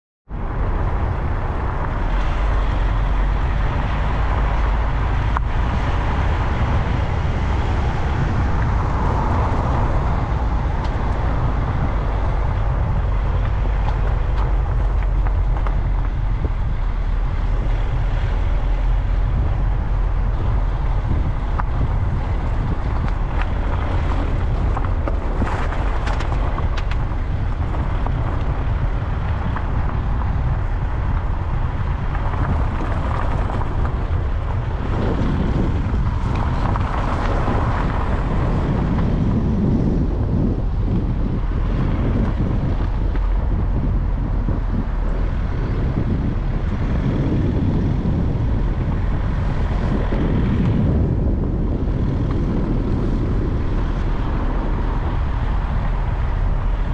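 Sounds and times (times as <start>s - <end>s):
car engine and road noise: 0.2s - 56.9s
wind on microphone: 0.3s - 56.9s.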